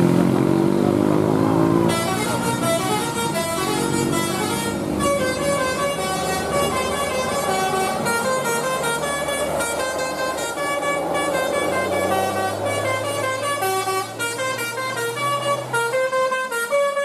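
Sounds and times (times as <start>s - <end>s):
bus engine rising in pitch: 0.0s - 17.0s
musical air horn tune: 1.9s - 17.0s.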